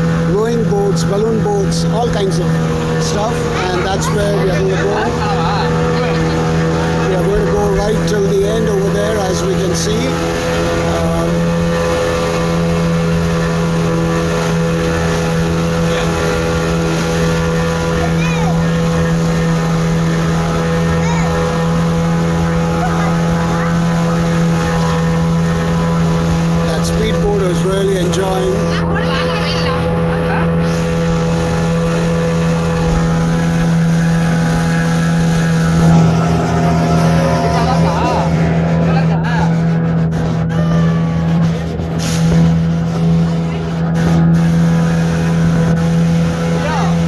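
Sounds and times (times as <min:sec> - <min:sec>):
motorboat engine humming: 0:00.0 - 0:47.0.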